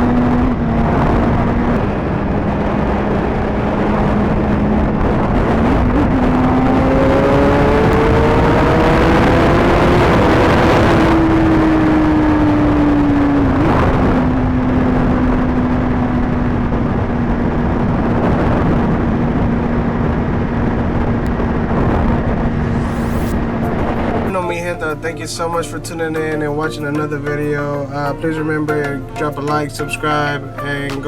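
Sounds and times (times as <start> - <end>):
motorcycle engine cruising: 0.0 - 25.5
wind rushing on microphone: 0.0 - 31.0.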